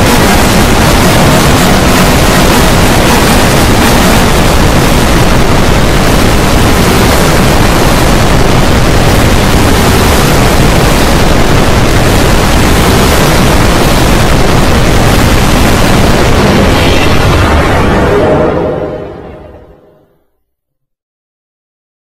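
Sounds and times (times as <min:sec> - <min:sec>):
harsh distorted noise: 0:00.0 - 0:20.2.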